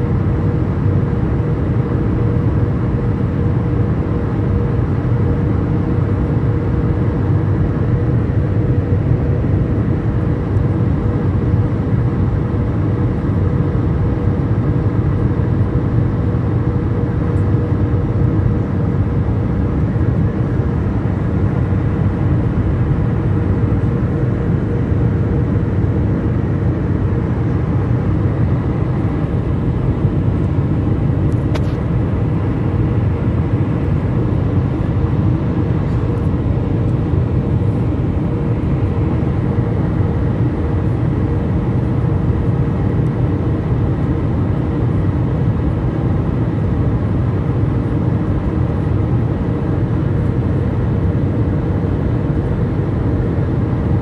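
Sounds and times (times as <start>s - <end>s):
faint steady hum: 0.0s - 54.0s
jet engines and rushing air: 0.0s - 54.0s.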